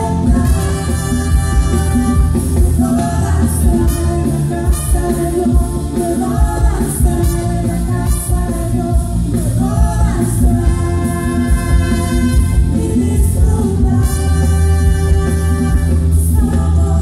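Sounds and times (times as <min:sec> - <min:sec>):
bass: 0:00.0 - 0:17.0
congas: 0:00.0 - 0:17.0
drums: 0:00.0 - 0:17.0
person singing lead vocal: 0:00.0 - 0:17.0.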